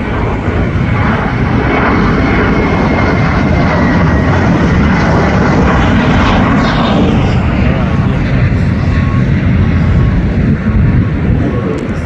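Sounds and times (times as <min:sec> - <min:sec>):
faint falling whine: 0:00.0 - 0:12.0
jet engine noise: 0:00.0 - 0:12.0.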